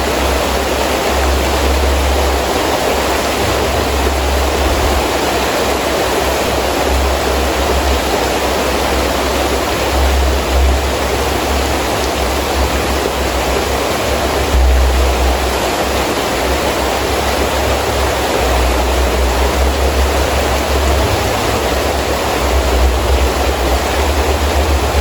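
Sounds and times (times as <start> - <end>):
heavy rain: 0.0 - 25.0
wind gusts rumbling: 0.0 - 25.0.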